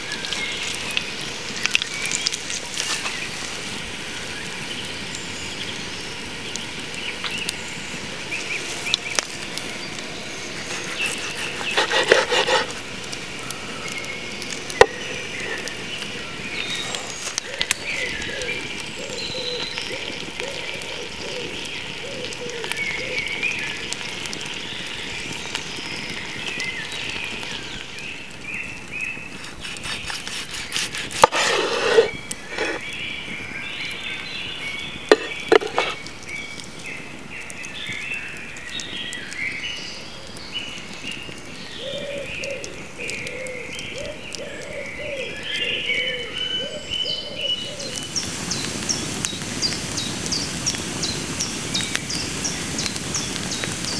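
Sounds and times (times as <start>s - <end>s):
wood fire crackling and hissing: 0.0s - 53.9s
birds chirping and singing: 4.2s - 12.8s, 13.4s - 53.9s.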